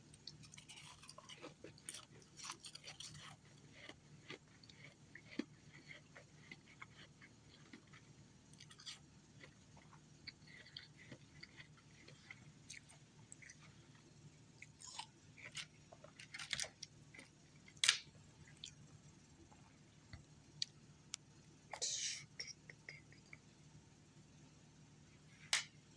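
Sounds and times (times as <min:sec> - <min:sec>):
faint low hum: 0:00.0 - 0:25.9.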